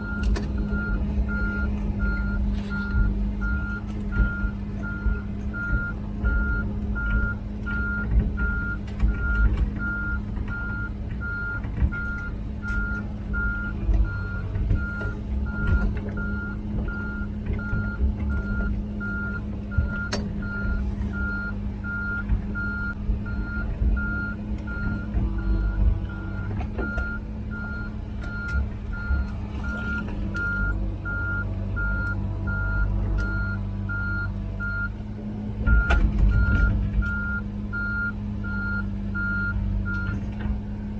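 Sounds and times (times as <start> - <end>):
travel alarm beeping: 0.0 - 34.9, 35.7 - 40.2
diesel engine running: 0.0 - 40.9.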